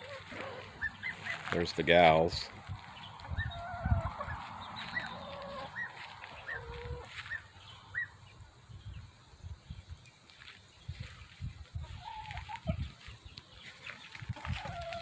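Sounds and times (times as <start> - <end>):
hens clucking: 0.0 - 8.5, 11.3 - 15.0.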